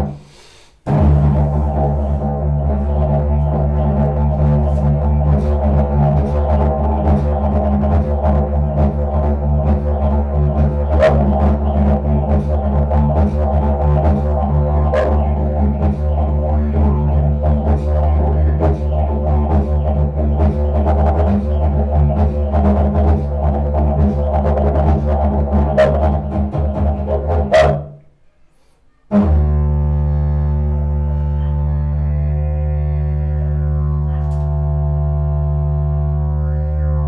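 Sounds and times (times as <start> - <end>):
low wooden trumpet drone: 0.9 - 28.0, 29.1 - 37.0.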